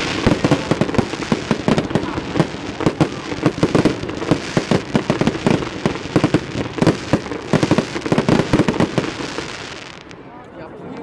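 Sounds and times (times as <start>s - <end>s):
fireworks bangs: 0.0s - 10.2s
fireworks crackle: 0.0s - 10.2s.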